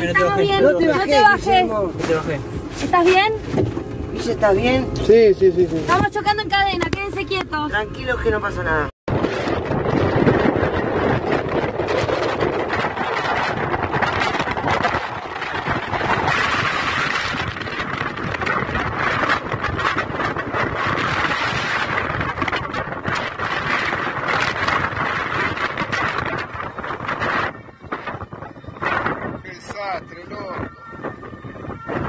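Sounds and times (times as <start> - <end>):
wind blowing across microphone: 0.0 - 32.0.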